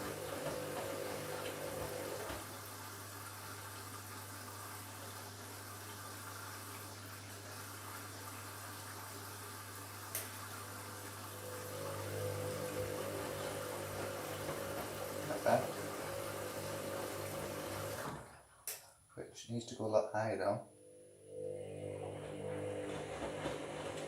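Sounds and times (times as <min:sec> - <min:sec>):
water rushing into washing machine: 0:00.0 - 0:18.4, 0:21.2 - 0:24.0.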